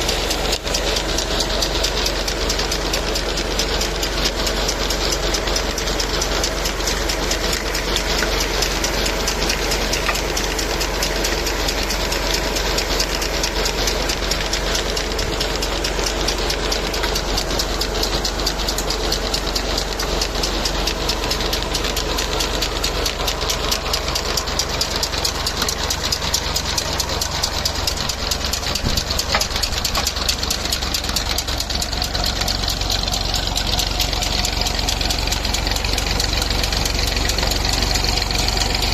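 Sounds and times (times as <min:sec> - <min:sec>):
tractor diesel engine clattering: 0:00.0 - 0:38.9.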